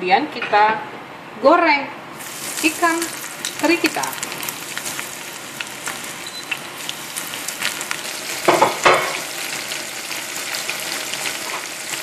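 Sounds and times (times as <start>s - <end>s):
fish deep-frying in oil: 2.2s - 12.0s.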